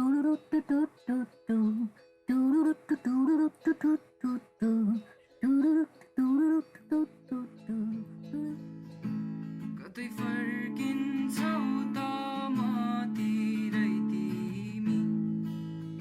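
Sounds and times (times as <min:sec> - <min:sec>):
person singing: 0:00.0 - 0:16.0
plucked accompaniment: 0:00.0 - 0:16.0
strummed acoustic guitar: 0:00.0 - 0:16.0.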